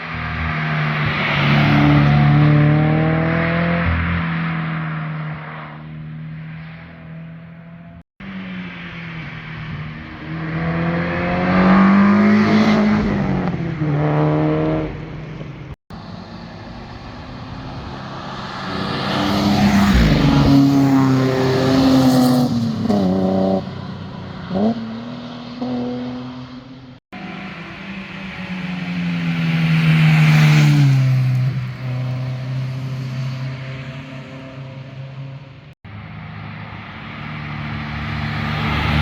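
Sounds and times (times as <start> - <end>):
cars accelerating past: 0.0 - 39.0.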